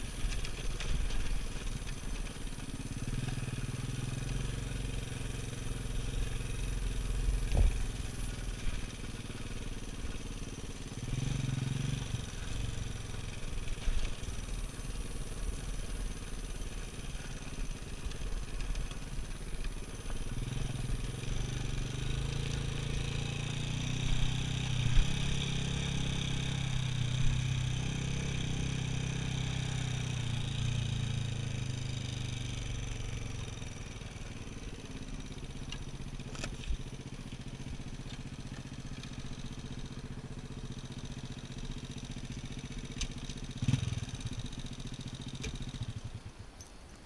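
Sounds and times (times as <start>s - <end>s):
motorcycle engine running: 0.0s - 46.8s.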